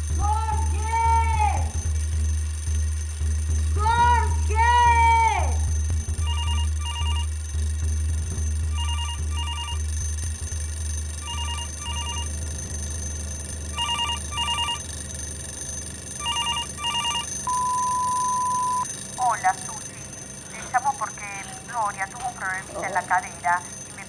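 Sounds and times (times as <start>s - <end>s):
low steady hum: 0.0s - 24.0s
telephone ringing: 0.0s - 24.0s.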